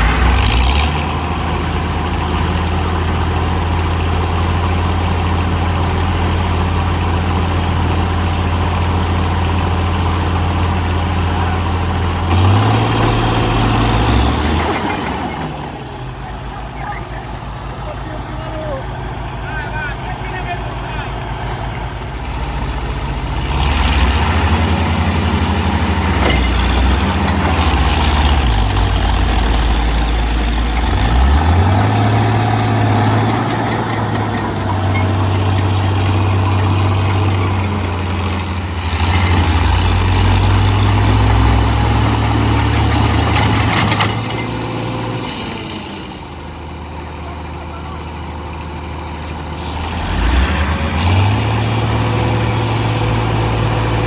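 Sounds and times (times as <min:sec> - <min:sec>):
diesel tractor engines working: 0:00.0 - 0:54.0.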